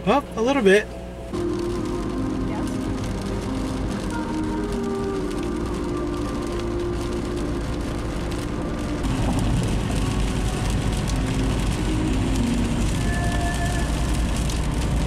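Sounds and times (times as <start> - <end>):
car road rumble: 0.0 - 15.0
tyres hissing on wet road: 0.0 - 15.0.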